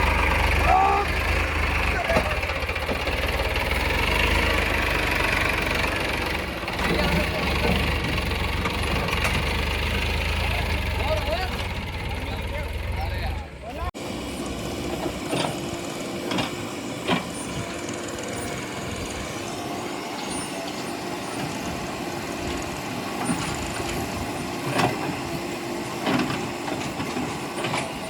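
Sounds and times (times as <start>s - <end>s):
heavy diesel machinery running: 0.0s - 28.0s.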